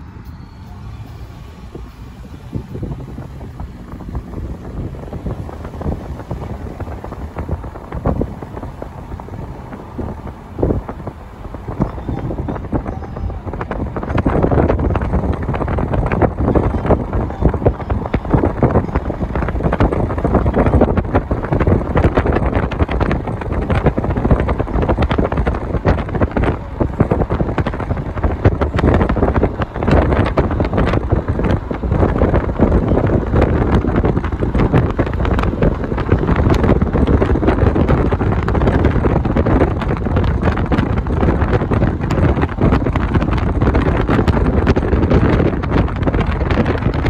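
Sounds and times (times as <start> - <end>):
car driving rumble: 0.0 - 47.0
wind buffeting microphone: 0.0 - 47.0.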